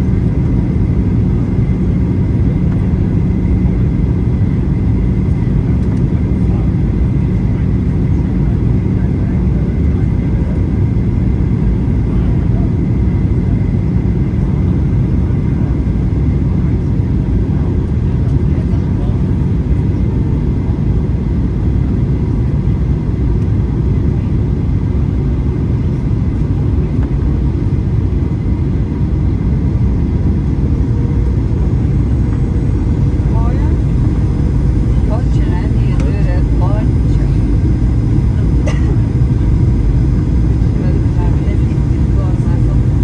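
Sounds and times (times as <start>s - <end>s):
jet engines rumbling in cabin: 0.0s - 43.0s.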